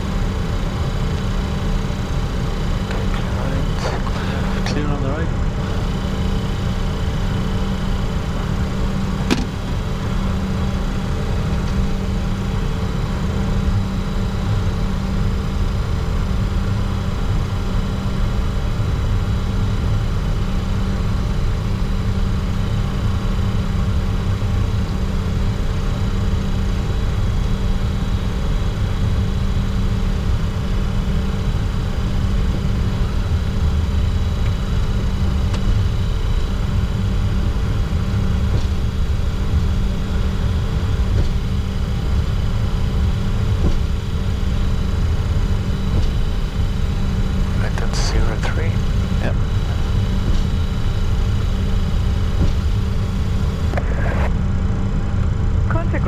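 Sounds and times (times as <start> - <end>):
jet engines humming in cockpit: 0.0 - 56.0.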